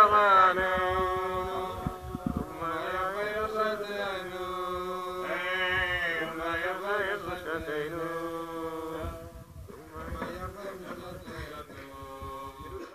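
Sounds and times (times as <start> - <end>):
man chanting: 0.0 - 12.9.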